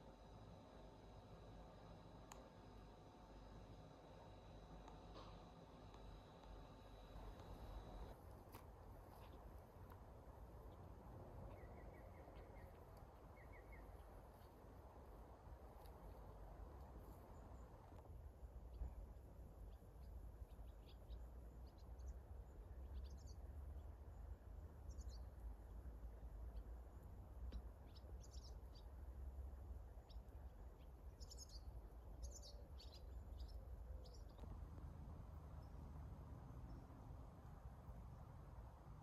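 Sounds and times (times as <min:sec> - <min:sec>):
low outdoor rumble: 0:00.0 - 0:39.0
songbirds chirping: 0:00.0 - 0:39.0.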